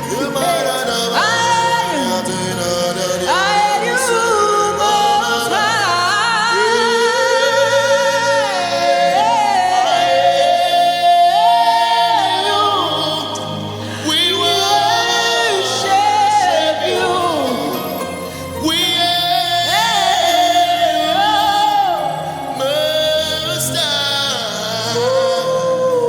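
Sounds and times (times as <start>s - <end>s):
sustained instrumental chords: 0.0s - 26.0s.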